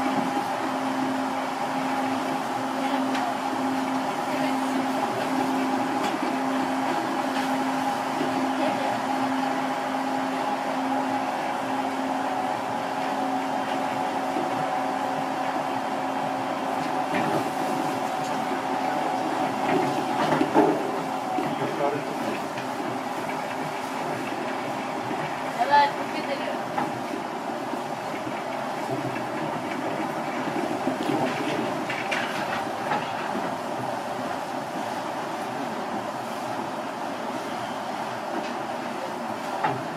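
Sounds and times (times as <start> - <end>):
steady humming tones: 0.0 - 39.9
train rolling rumble: 0.0 - 39.9.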